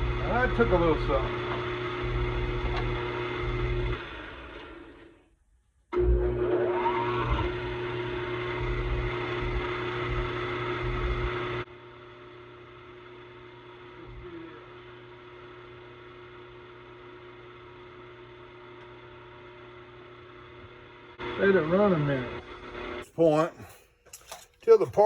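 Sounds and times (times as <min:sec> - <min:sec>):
drill press motor humming: 0:00.0 - 0:05.2, 0:06.0 - 0:23.1.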